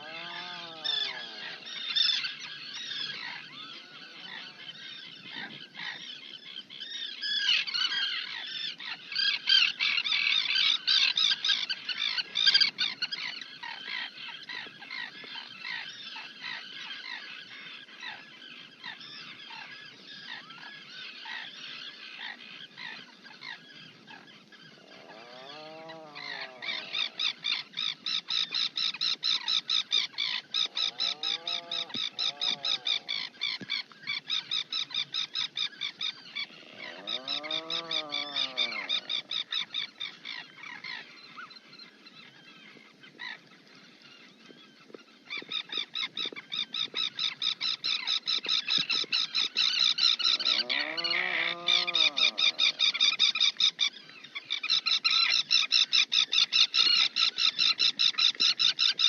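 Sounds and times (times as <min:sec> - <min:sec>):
birds chirping: 0:00.0 - 0:59.0
lower arched bird calls: 0:00.0 - 0:59.0.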